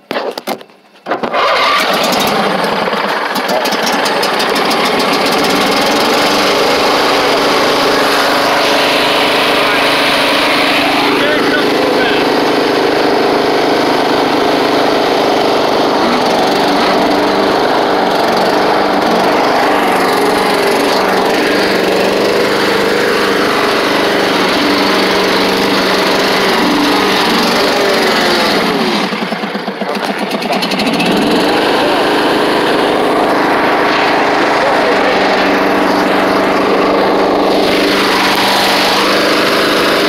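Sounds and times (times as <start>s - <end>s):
riding lawn mower engine running: 0.4s - 40.0s.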